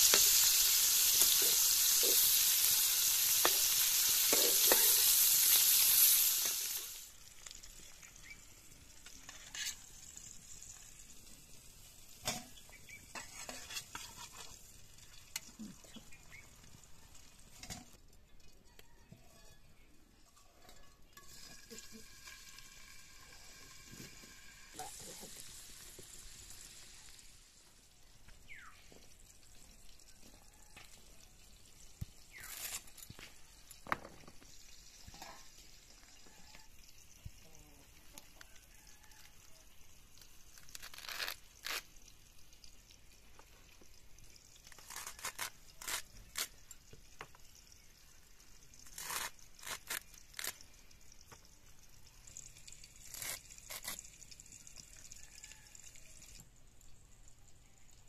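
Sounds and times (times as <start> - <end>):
pork sizzling in a pan: 0.0 - 18.0, 21.1 - 57.7.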